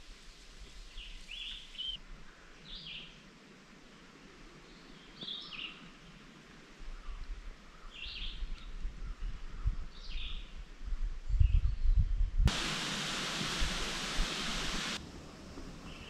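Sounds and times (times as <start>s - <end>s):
songbird singing: 0.7s - 3.3s, 4.5s - 10.7s, 11.3s - 16.0s.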